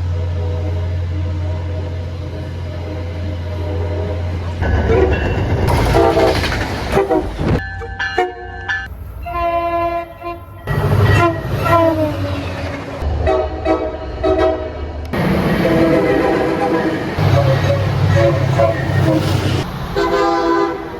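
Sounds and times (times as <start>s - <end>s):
rumble of trains: 0.0s - 20.9s
train horns sounding: 0.0s - 20.9s.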